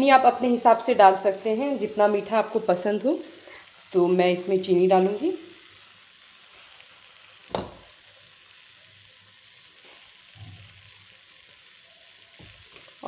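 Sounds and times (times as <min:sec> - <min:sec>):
food sizzling softly in a pan: 0:00.0 - 0:13.0.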